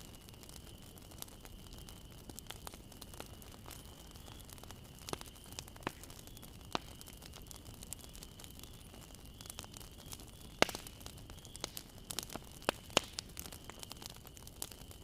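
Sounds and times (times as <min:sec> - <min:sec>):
bonfire rumbling: 0:00.0 - 0:15.0
fire crackling pops: 0:00.0 - 0:15.0.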